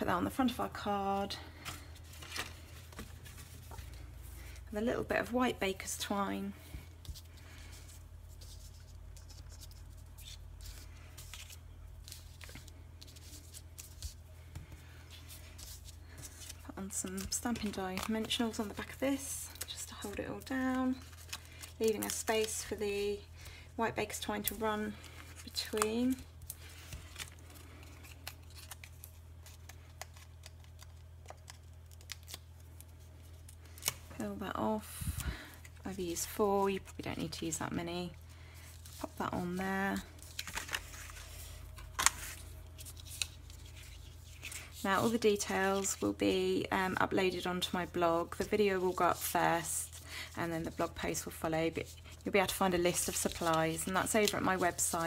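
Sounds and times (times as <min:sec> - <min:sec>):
card and twine rustling: 0:00.0 - 0:55.0
steady low hum: 0:00.0 - 0:55.0.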